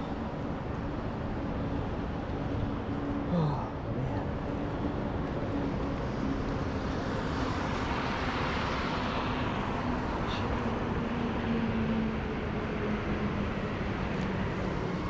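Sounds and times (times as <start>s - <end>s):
steady traffic noise: 0.0s - 15.0s.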